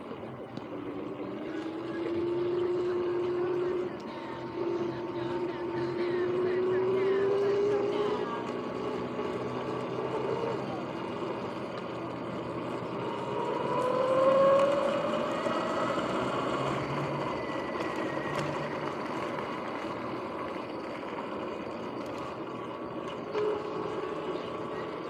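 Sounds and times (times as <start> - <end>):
electric motor whining: 0.0 - 25.0
noisy bearings: 0.0 - 25.0.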